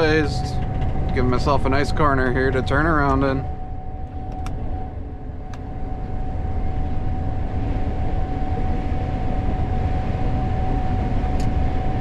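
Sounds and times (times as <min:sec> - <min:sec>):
combine low drone: 0:00.0 - 0:12.0.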